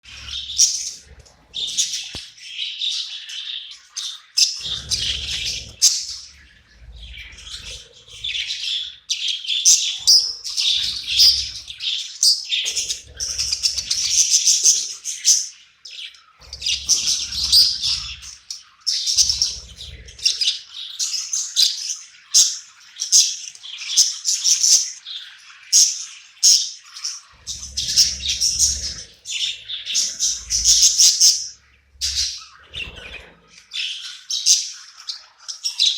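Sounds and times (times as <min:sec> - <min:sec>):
budgies chattering: 0:00.0 - 0:35.9.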